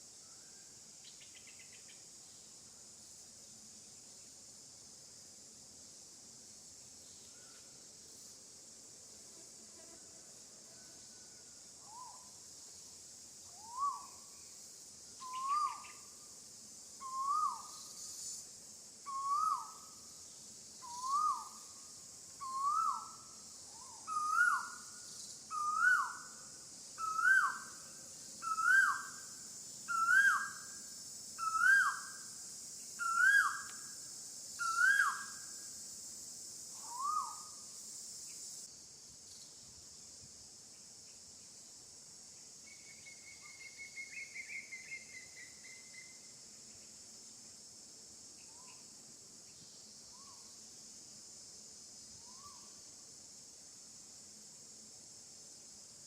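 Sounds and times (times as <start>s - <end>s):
high drone of insects: 0.0s - 56.0s.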